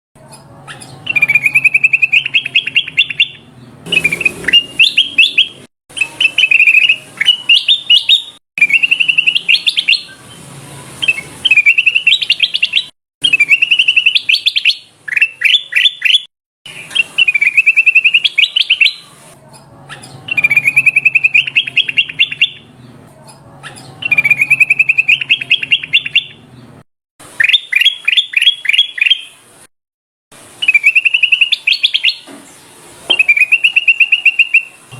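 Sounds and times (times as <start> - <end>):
bird singing trilled phrases: 0.6 - 10.4, 11.0 - 19.0, 19.9 - 22.7, 23.6 - 26.4, 27.4 - 29.3, 30.6 - 32.3, 33.1 - 34.8.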